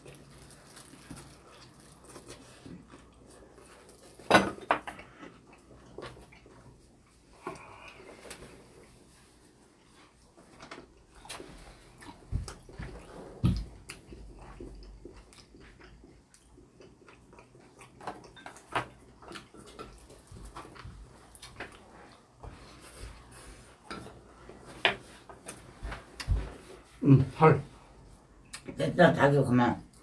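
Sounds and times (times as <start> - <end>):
person chewing: 0.0 - 8.9, 10.8 - 27.0.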